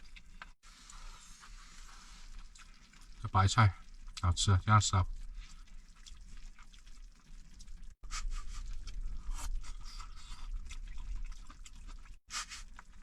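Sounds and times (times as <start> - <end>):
food bubbling in a pot: 0.0 - 13.0.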